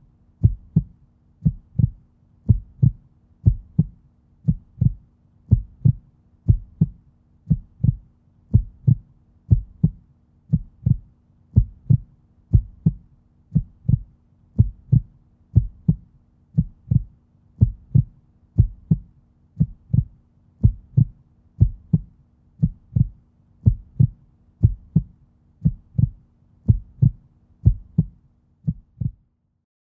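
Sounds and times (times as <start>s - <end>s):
heartbeat thumps: 0.4s - 29.2s.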